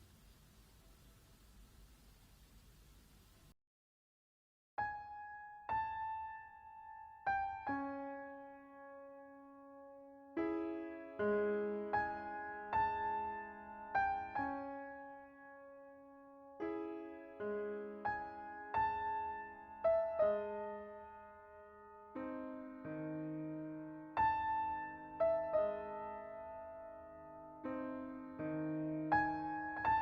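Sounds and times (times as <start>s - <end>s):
gentle solo piano: 4.8s - 30.0s.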